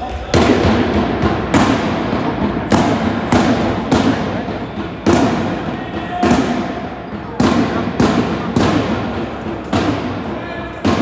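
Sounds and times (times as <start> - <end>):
heavy thuds echoing in a hall: 0.0 - 11.0.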